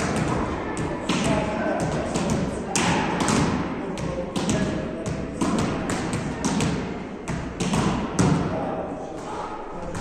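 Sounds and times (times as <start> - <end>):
volleyballs being struck: 0.0 - 8.6.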